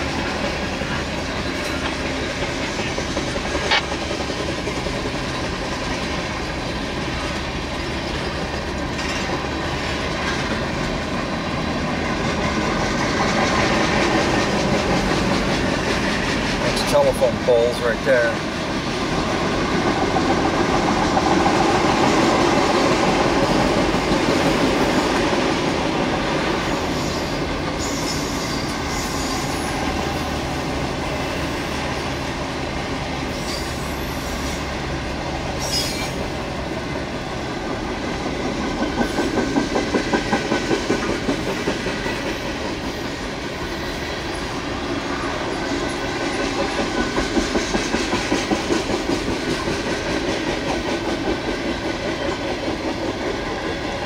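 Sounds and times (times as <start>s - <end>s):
freight cars rumbling on rails: 0.0s - 54.0s.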